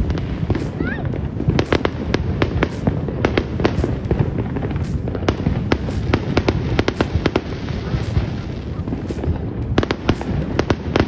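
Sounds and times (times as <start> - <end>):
fireworks cracking: 0.0 - 11.0
steady low rumble: 0.0 - 11.0.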